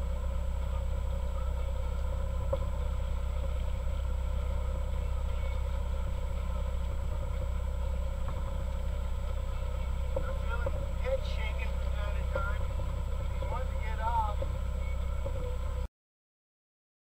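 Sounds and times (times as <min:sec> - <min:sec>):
boat motor rumbling: 0:00.0 - 0:15.9.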